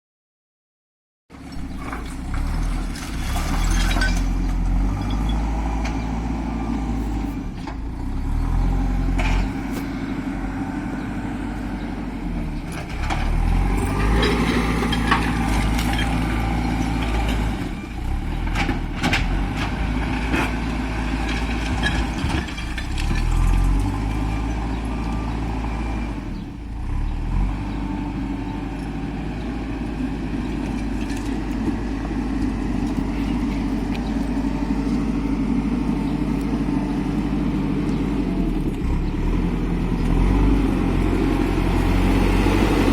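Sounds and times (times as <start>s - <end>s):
heavy diesel engine revving: 1.5s - 42.9s.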